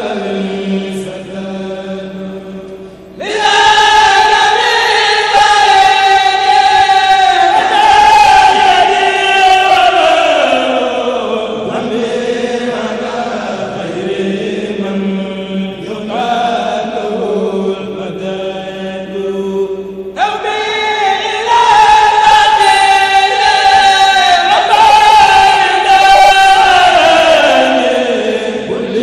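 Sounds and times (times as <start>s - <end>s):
men chanting in unison: 0.0s - 2.6s, 3.2s - 29.0s.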